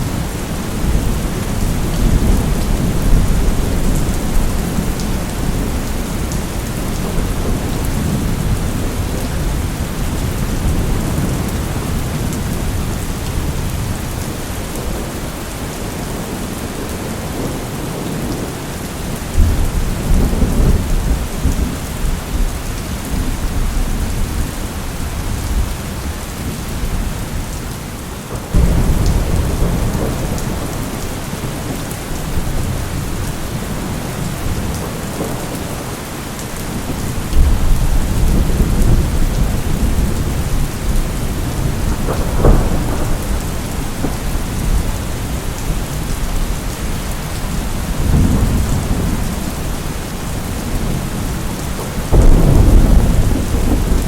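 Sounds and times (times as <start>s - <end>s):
rolling thunder: 0.0s - 18.5s, 19.3s - 27.5s, 28.3s - 36.0s, 36.6s - 54.0s
heavy rain: 0.0s - 54.0s.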